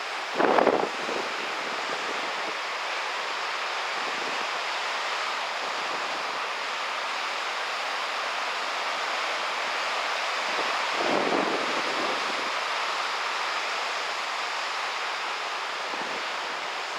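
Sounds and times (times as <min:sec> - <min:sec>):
wind: 0:00.0 - 0:16.9.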